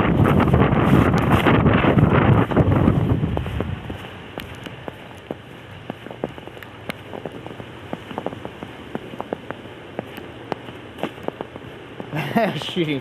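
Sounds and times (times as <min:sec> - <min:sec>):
snow ticking on camera: 0:00.0 - 0:13.0
steady hiss: 0:00.0 - 0:13.0.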